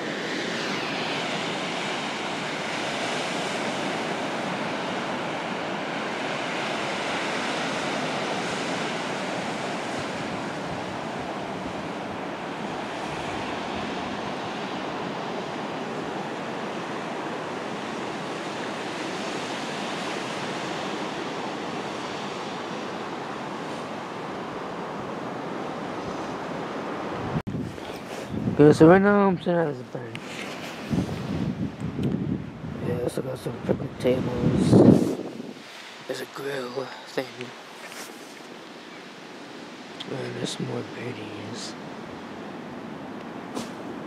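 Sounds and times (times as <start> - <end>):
lake waves washing ashore: 0.0 - 44.0
wind: 0.0 - 44.0.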